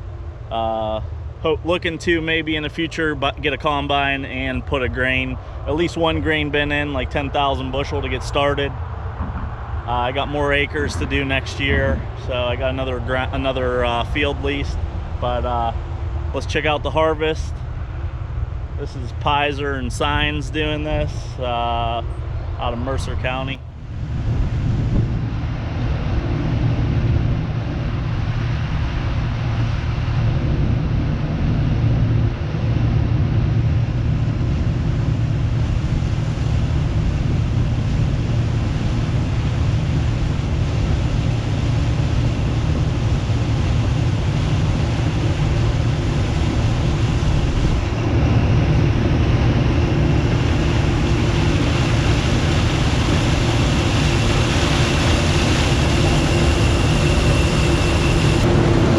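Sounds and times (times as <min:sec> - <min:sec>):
combine harvester engine drone: 0:00.0 - 0:58.9.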